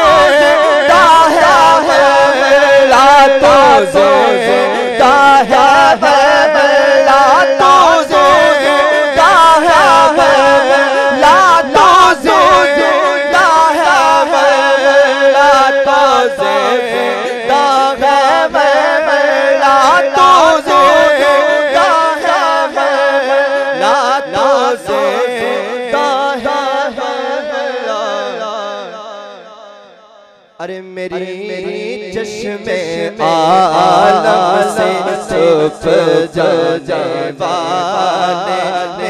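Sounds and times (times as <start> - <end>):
man singing wavering melody: 0.0 - 28.9, 30.6 - 39.0.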